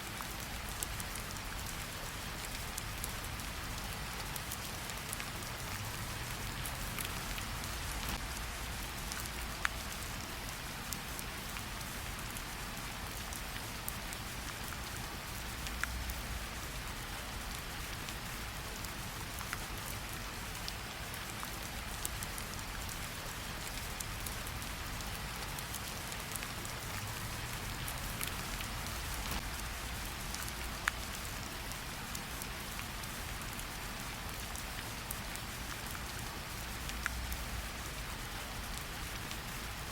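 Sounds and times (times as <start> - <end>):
rain on tree leaves: 0.0 - 39.9.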